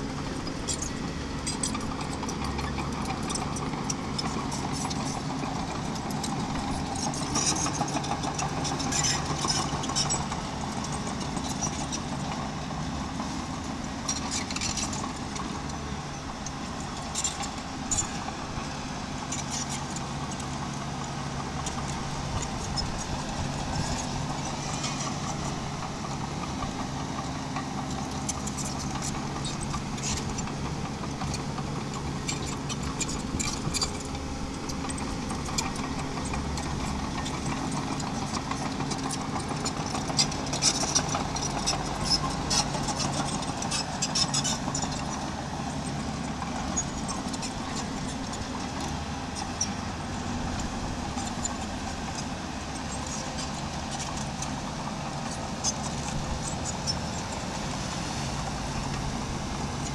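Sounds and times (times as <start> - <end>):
miniature bulldozer engine running: 0.0 - 59.9.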